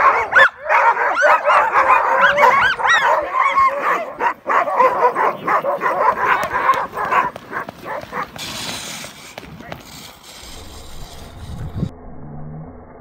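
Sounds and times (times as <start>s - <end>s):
sled dogs yipping and barking: 0.0s - 11.6s.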